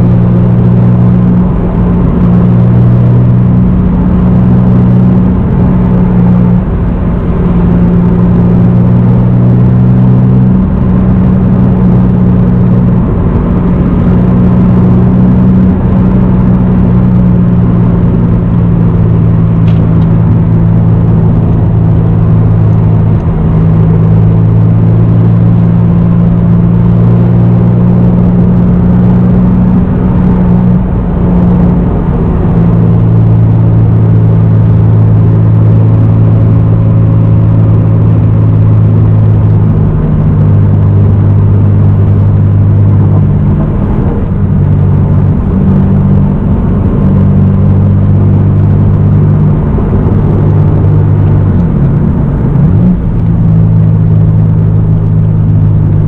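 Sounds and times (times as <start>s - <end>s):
car engine droning at cruise: 0.0s - 56.0s.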